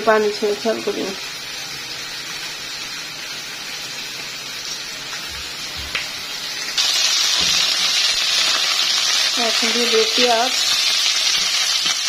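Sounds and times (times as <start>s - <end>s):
hot oil sizzling in pan: 0.0s - 12.0s.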